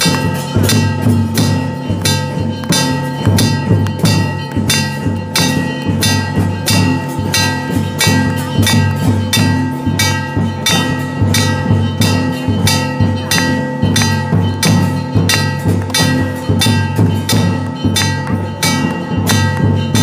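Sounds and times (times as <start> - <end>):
bell and percussion strikes: 0.0 - 20.0.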